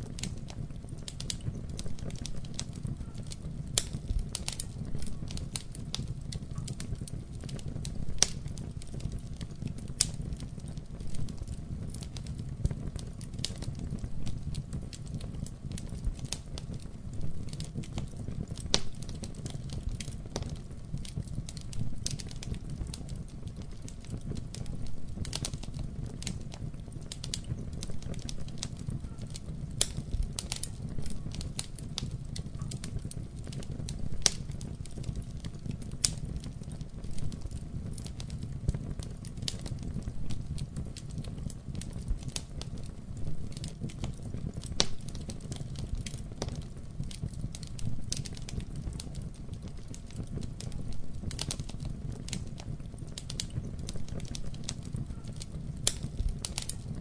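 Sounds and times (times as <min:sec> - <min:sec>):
fire crackles and pops: 0:00.0 - 0:57.0
low rumble of flames: 0:00.0 - 0:57.0.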